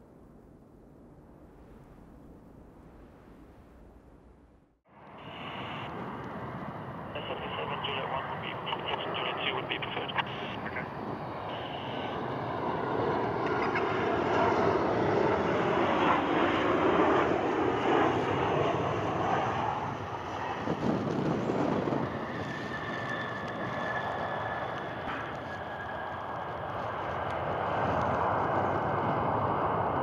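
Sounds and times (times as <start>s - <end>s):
steady high whine: 0.0s - 30.0s
jet airliner landing: 4.9s - 30.0s.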